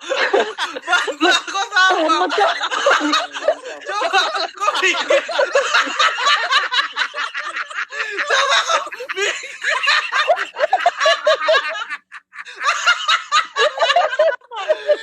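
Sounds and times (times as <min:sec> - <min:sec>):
people laughing and giggling: 0:00.0 - 0:15.0.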